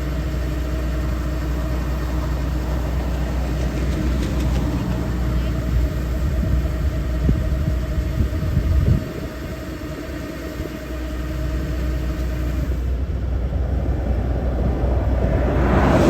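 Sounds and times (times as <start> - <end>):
farm machine engine rumbling: 0.0 - 16.0.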